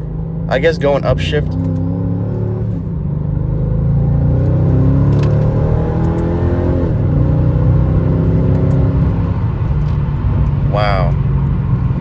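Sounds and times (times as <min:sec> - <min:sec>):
automatic gear upshift: 0:00.0 - 0:12.0
car engine accelerating: 0:00.0 - 0:12.0.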